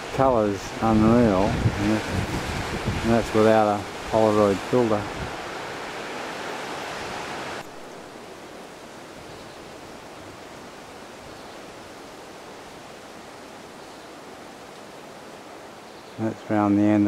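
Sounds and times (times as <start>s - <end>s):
surf washing against rocks: 0.0s - 15.8s.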